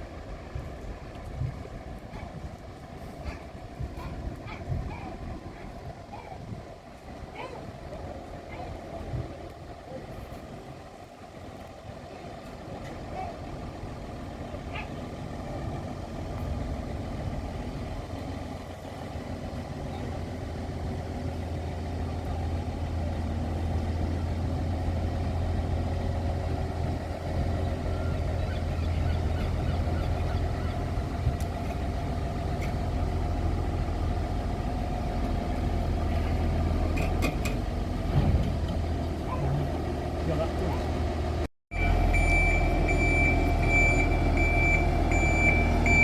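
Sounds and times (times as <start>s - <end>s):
heavy vehicle humming: 0.0s - 46.0s.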